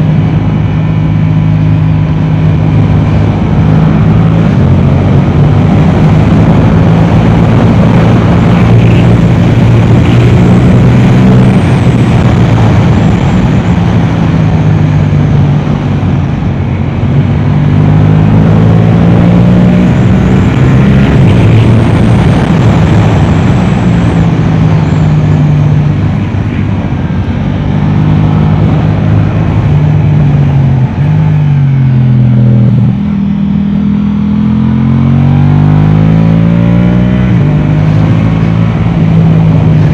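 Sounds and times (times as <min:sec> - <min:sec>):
constant rushing noise: 0:00.0 - 0:39.9
motorcycle engine revving: 0:00.0 - 0:39.9.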